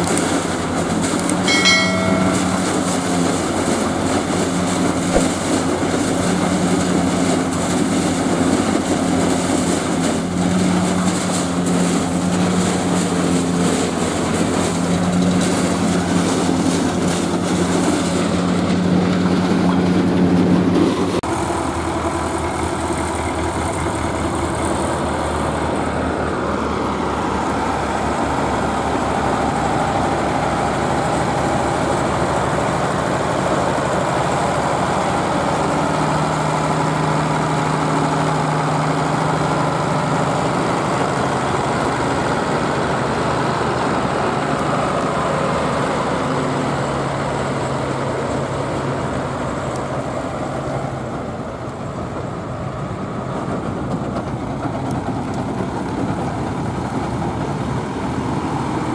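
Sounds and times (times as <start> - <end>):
tractor diesel engines: 0.0 - 1.5, 2.3 - 58.9.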